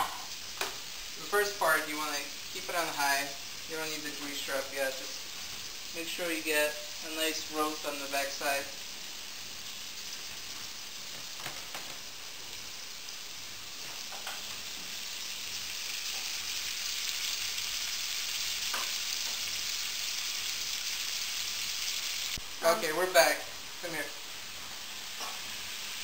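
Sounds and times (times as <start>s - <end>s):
steaks sizzling in a frying pan: 0.0s - 26.0s.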